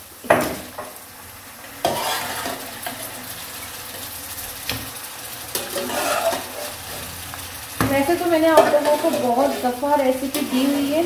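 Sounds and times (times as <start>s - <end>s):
masala sizzling in a wok: 0.0s - 11.0s.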